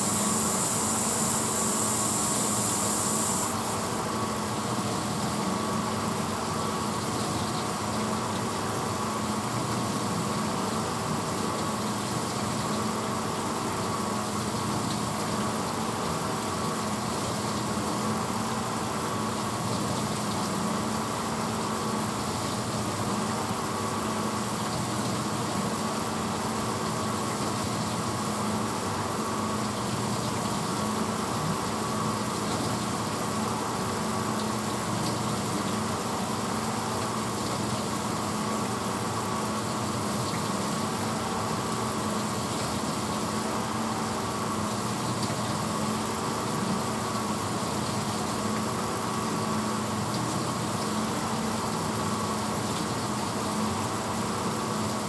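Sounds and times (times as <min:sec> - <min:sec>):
dishwasher motor hum: 0:00.0 - 0:55.0
water spraying inside dishwasher: 0:00.0 - 0:55.0.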